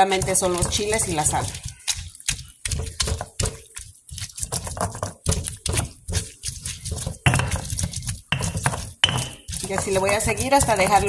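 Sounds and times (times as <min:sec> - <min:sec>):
stone pestle pounding and grinding: 0:00.0 - 0:11.0.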